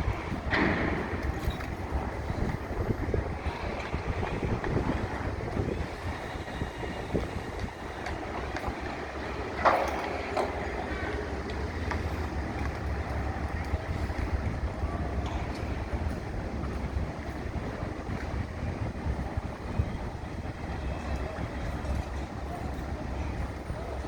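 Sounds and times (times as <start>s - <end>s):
construction site rumble: 0.0s - 24.0s
wind buffeting microphone: 0.0s - 24.0s.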